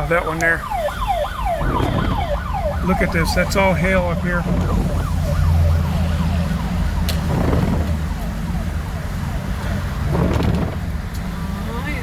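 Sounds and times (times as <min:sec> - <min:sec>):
car alarm siren: 0:00.0 - 0:10.1
car driving rumble: 0:00.0 - 0:12.0.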